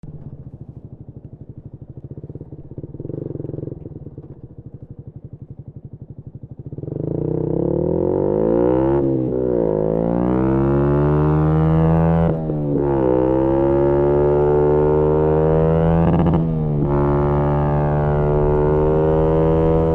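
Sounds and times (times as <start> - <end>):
motorcycle engine revving: 0.1 - 19.9.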